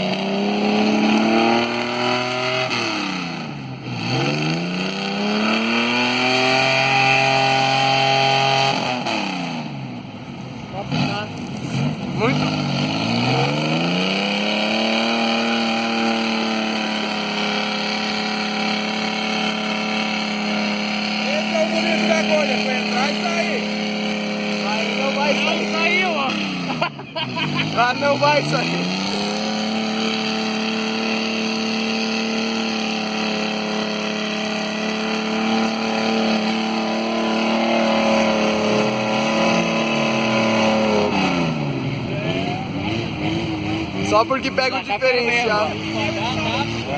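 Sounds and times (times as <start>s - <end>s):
vehicle engine revving high: 0.0s - 46.9s.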